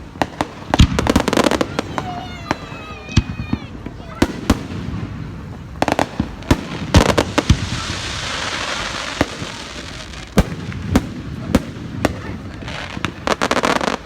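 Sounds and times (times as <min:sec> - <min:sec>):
firework hiss: 0:00.0 - 0:14.0.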